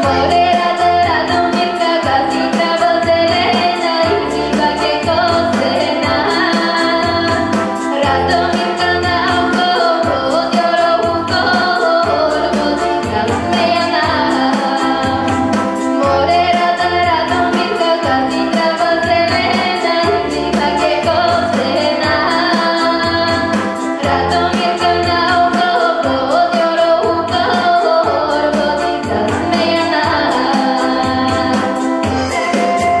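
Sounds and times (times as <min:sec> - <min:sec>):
folk dance music with singing: 0:00.0 - 0:33.0.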